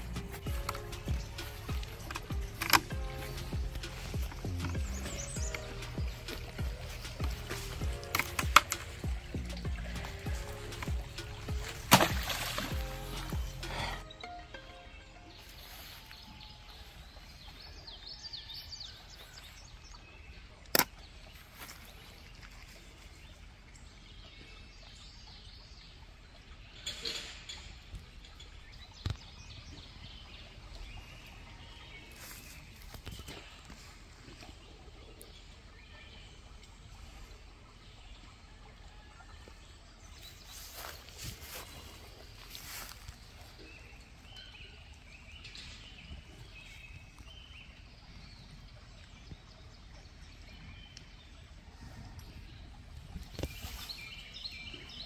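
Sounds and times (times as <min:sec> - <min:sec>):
faint birds chirping: 0:00.0 - 0:55.0.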